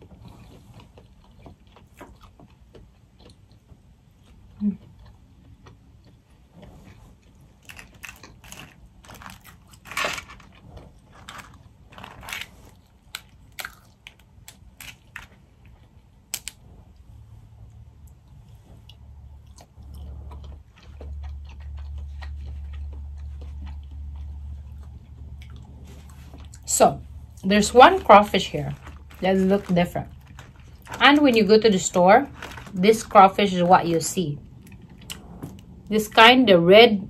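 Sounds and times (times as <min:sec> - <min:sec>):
chewing: 0:00.0 - 0:16.0, 0:17.6 - 0:35.8
low steady hum: 0:00.0 - 0:37.0.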